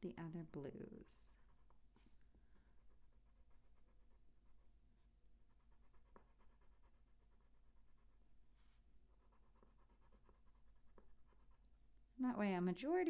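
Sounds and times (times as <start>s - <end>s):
colored pencil scratching on paper: 0.4s - 4.8s, 5.4s - 11.7s.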